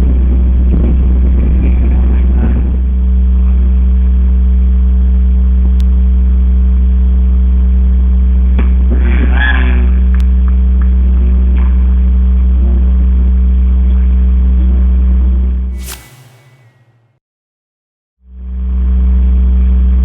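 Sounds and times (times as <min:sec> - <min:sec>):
loud low hum and drone: 0:00.0 - 0:17.2, 0:18.3 - 0:20.0.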